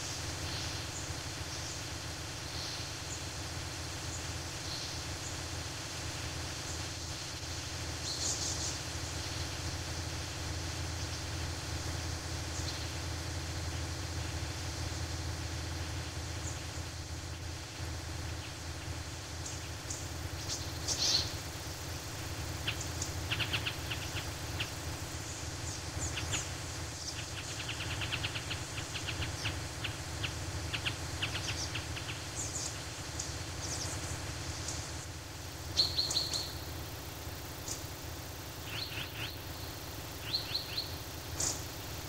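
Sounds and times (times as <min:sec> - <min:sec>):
low background rumble: 0:00.0 - 0:42.0
small birds chirping: 0:00.0 - 0:42.0.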